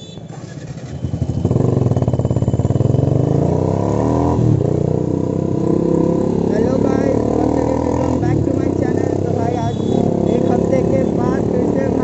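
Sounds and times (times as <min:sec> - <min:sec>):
motorcycle engine accelerating: 0:00.4 - 0:12.0.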